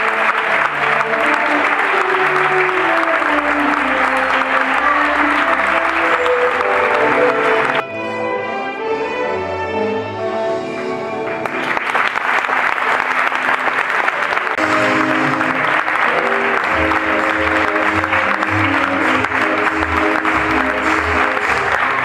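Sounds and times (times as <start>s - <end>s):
audience applause: 0.0s - 7.8s, 11.2s - 22.0s.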